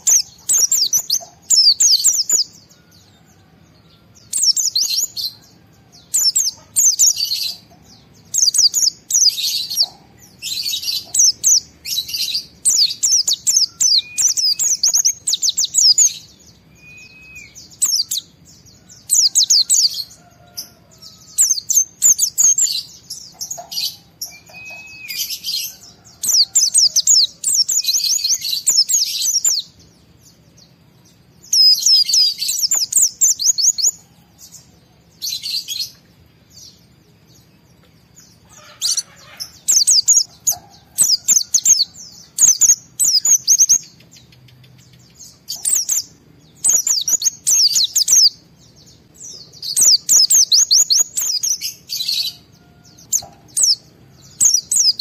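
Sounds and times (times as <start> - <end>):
bird twittering chirps: 0.0 - 55.0.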